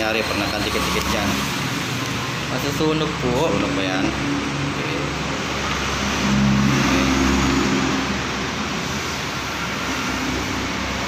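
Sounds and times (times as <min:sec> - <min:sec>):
motor vehicle engine: 0:00.0 - 0:11.0.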